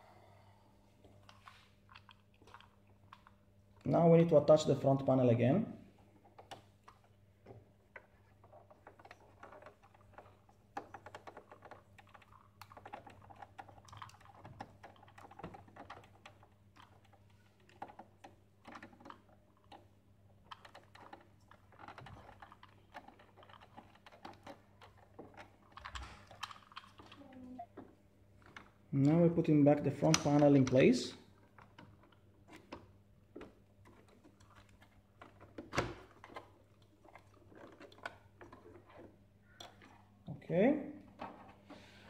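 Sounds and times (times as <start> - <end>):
plastic parts clicking and tapping: 1.2 - 3.4, 6.1 - 29.2, 30.0 - 40.2, 41.1 - 41.8.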